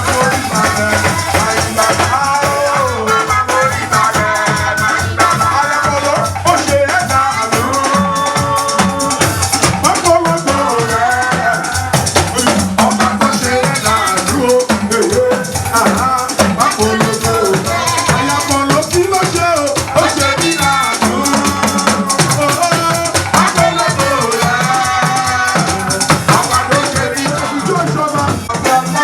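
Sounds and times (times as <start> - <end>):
drums: 0.0 - 29.0
keyboard: 0.0 - 29.0
shakers: 0.0 - 29.0.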